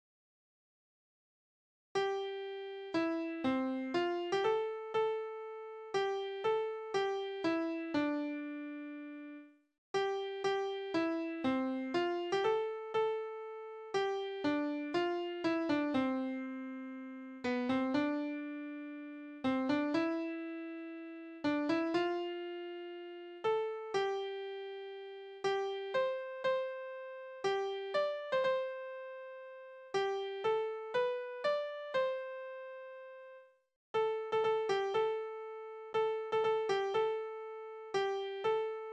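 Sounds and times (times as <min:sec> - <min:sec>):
piano melody: 0:02.0 - 0:09.3, 0:10.0 - 0:33.4, 0:34.0 - 0:38.9.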